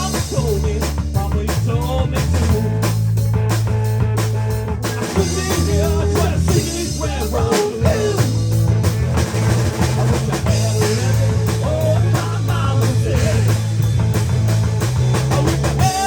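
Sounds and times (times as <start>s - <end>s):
drum kit: 0.0s - 16.0s
steady bass line: 0.0s - 16.0s.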